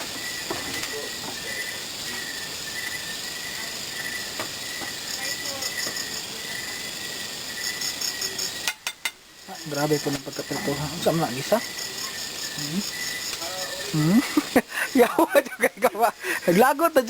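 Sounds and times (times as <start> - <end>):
crickets trilling: 0.0 - 17.0
higher faster cricket chirping: 0.0 - 17.0.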